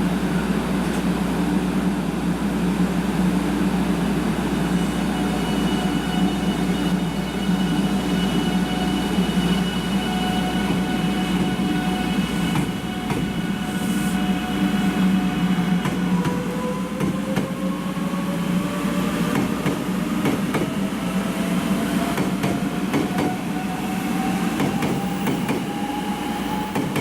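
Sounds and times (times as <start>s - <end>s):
train electrical whine: 0.0s - 27.0s.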